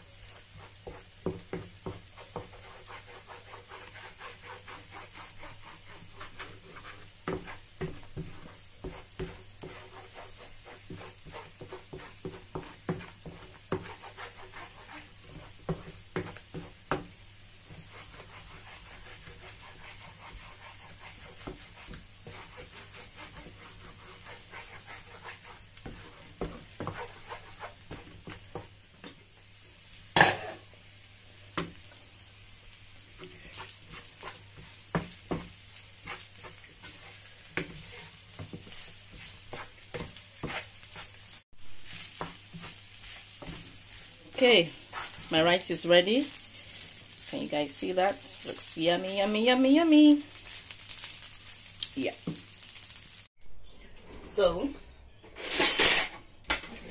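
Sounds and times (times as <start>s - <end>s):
light sizzle of frying: 0.0s - 53.5s
spatula scraping frying pan: 0.3s - 17.0s, 17.6s - 29.2s, 30.2s - 30.7s, 33.1s - 53.0s, 55.2s - 56.2s.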